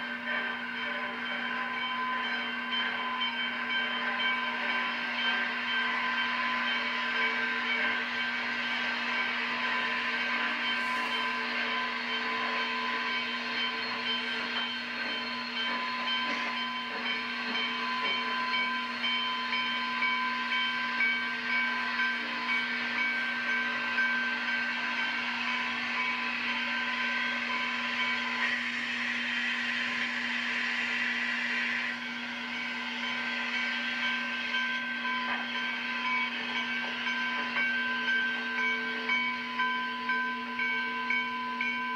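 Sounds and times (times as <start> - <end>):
steam hissing: 1.4 - 41.4.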